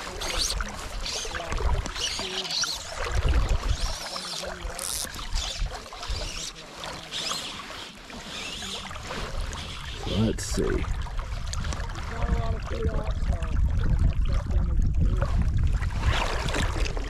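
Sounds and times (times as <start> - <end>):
wind buffeting microphone: 0.0 - 6.5, 8.8 - 17.0
river water rippling and splashing: 0.0 - 17.0.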